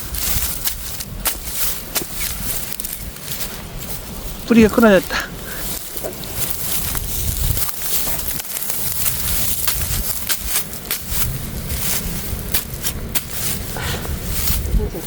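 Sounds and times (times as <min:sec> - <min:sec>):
soil and stems crackling: 0:00.0 - 0:15.0
wind rumble on microphone: 0:00.0 - 0:15.0.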